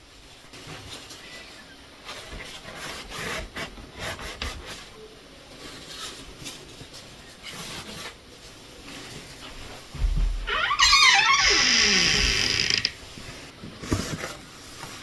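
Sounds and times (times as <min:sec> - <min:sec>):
rubbing and rustling handling noises: 0:00.0 - 0:15.0.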